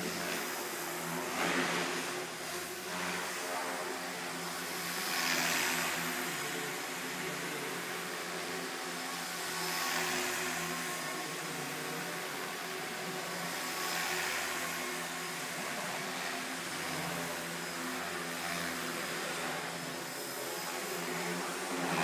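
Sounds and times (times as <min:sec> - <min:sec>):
rc helicopter motor whine: 0:00.0 - 0:22.0.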